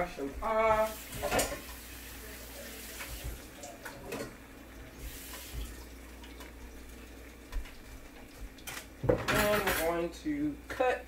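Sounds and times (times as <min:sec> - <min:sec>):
kitchen tap running: 0:00.0 - 0:10.0.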